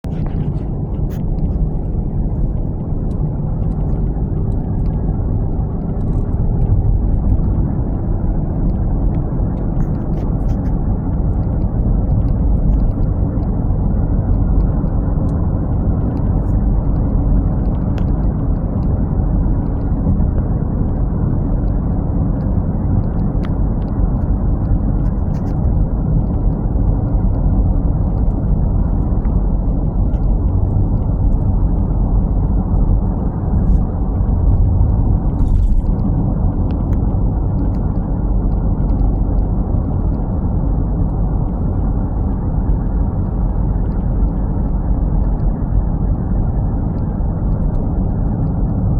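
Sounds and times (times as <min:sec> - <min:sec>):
road noise: 0:00.0 - 0:48.9
truck engine rumble: 0:00.0 - 0:48.9.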